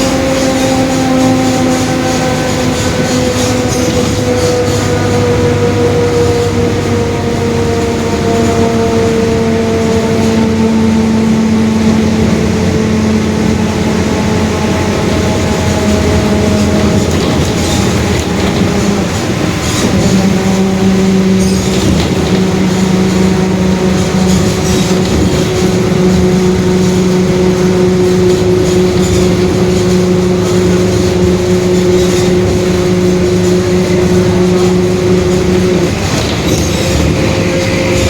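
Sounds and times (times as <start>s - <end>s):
bus differential gear whine: 0.0s - 38.0s
bus engine: 0.0s - 38.0s.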